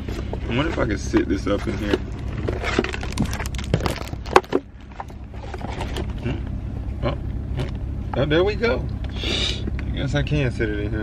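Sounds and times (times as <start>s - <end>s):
truck engine hum: 0.0s - 11.0s.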